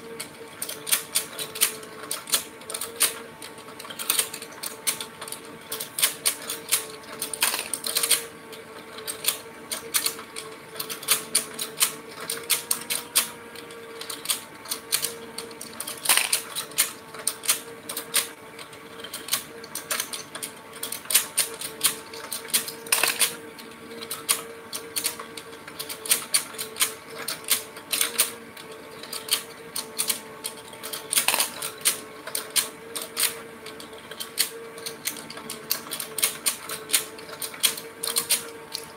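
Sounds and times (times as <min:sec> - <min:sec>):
toy motor hum: 0:00.0 - 0:38.9
plastic toy clicking and clacking: 0:00.1 - 0:38.9.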